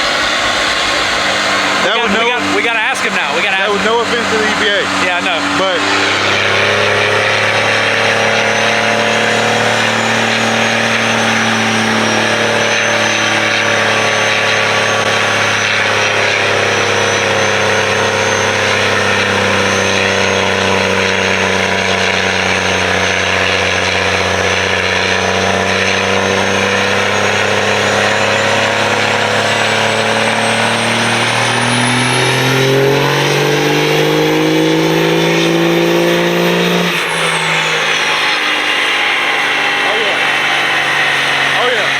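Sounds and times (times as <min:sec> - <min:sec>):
diesel engine running under load: 0:00.0 - 0:41.9.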